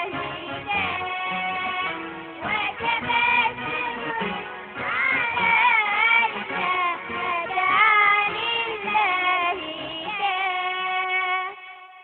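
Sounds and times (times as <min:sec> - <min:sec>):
children singing: 0:00.0 - 0:11.7.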